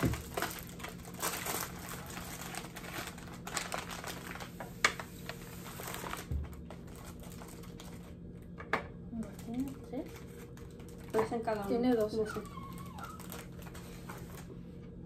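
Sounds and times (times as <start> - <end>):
plastic wrappers crinkling: 0.0 - 8.5, 9.1 - 14.6.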